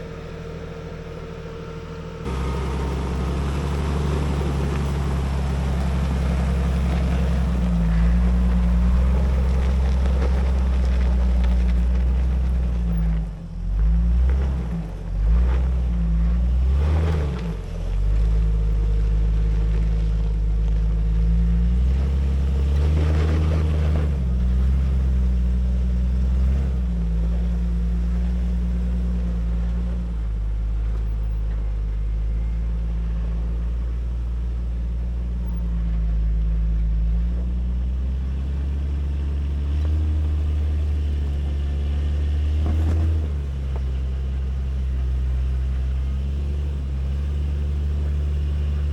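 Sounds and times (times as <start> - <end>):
off-road vehicle engine revving: 0.0 - 48.9.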